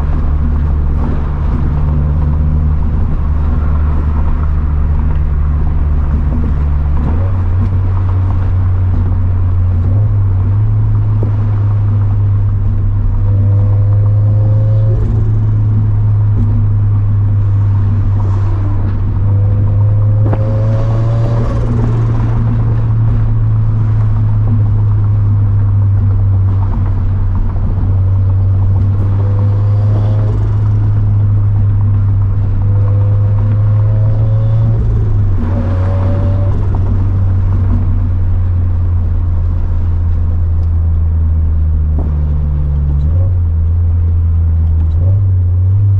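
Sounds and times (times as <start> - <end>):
car engine drone: 0.0 - 45.9.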